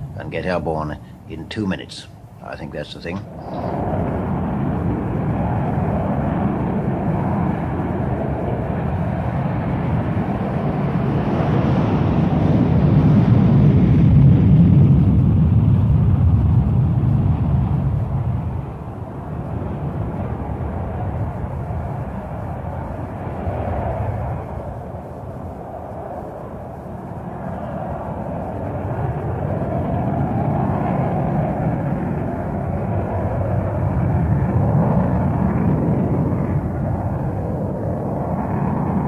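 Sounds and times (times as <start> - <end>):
jet engines roaring at takeoff: 0.0 - 39.0.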